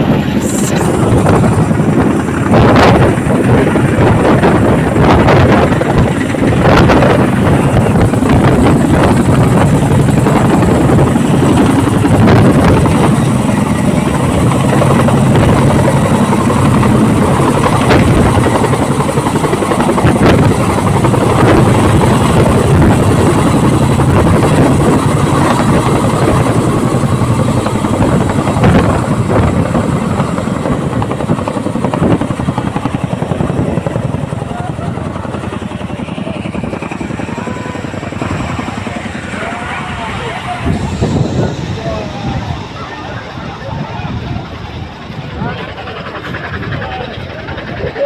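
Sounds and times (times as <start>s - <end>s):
twin-rotor helicopter running: 0.0s - 48.0s.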